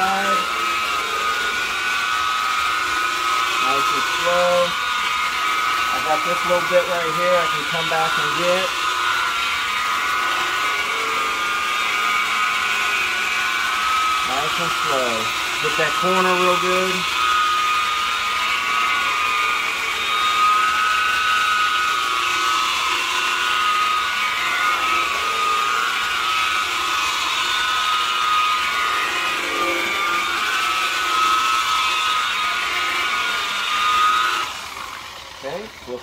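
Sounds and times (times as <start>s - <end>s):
rotary buffer motor whining: 0.0s - 36.0s.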